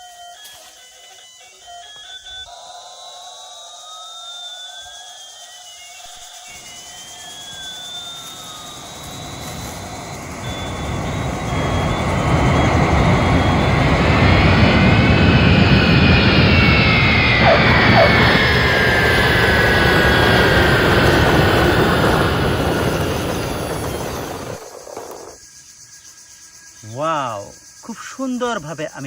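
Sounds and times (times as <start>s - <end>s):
jet engine whine: 0.0s - 25.4s.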